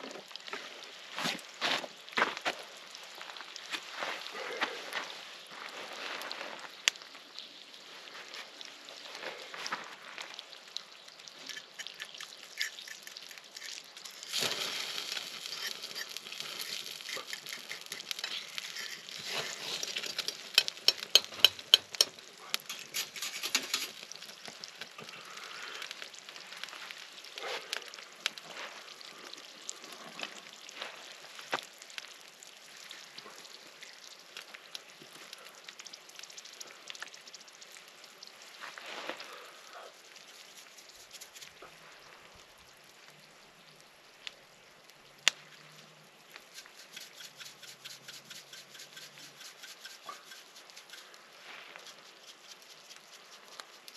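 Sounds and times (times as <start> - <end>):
food sizzling in a pan: 5.0 - 42.2, 45.1 - 53.9.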